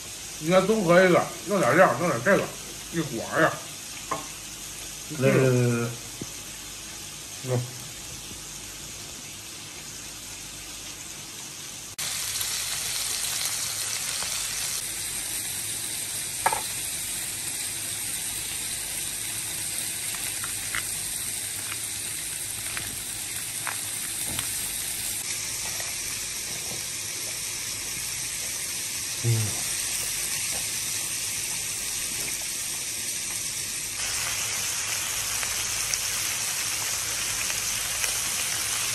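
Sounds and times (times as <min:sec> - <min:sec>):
meat sizzling on a grill: 0:00.0 - 0:38.9.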